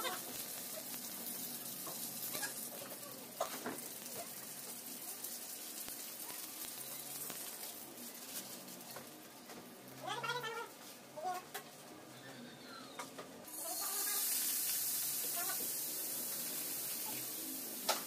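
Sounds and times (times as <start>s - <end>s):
noodles sizzling in hot oil: 0.0s - 10.1s, 13.5s - 18.0s.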